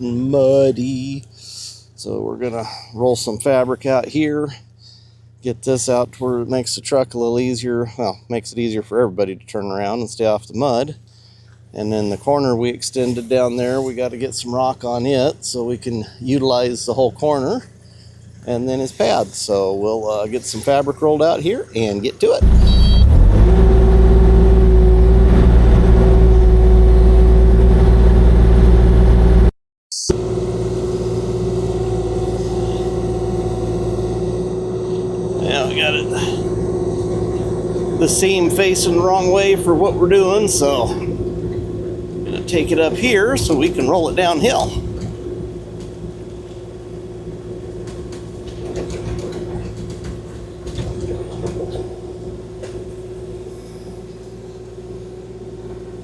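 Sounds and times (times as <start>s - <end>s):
excavator diesel engine running: 0.0s - 29.5s, 30.1s - 56.0s.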